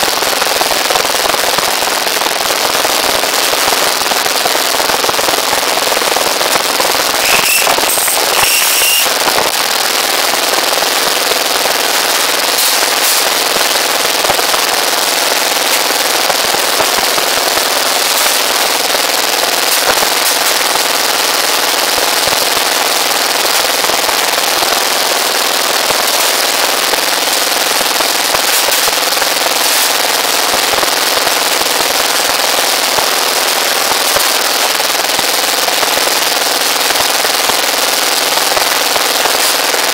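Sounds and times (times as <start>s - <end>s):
small engine with popping exhaust: 5.2s - 39.9s.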